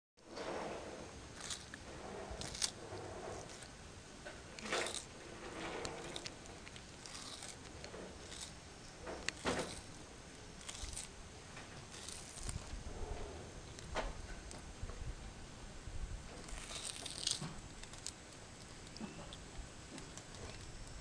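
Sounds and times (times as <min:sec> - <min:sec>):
tortoise crunching melon: 0:00.6 - 0:15.1, 0:16.2 - 0:21.0.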